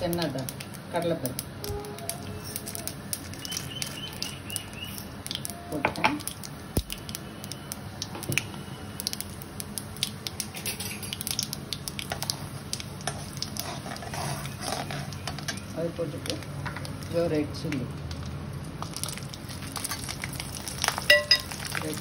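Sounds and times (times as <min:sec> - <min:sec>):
oil sizzling and crackling: 0:00.0 - 0:22.0
seeds popping in oil: 0:00.0 - 0:22.0.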